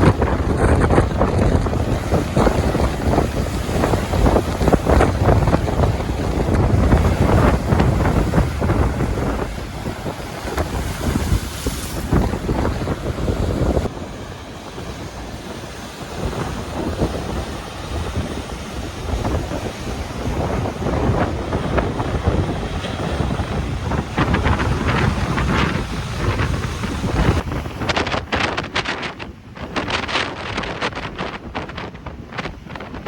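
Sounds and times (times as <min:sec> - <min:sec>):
waves crashing: 0:00.0 - 0:33.0
wind buffeting microphone: 0:00.0 - 0:33.0.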